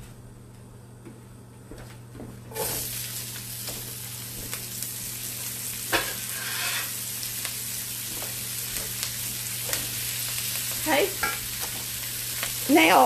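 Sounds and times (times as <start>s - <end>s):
cabbage sizzling in a skillet: 2.5s - 13.0s.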